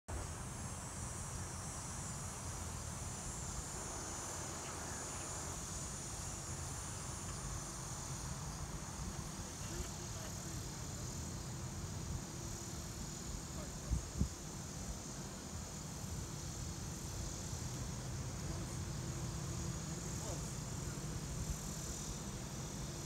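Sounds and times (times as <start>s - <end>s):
insects chirring: 0.1s - 23.0s.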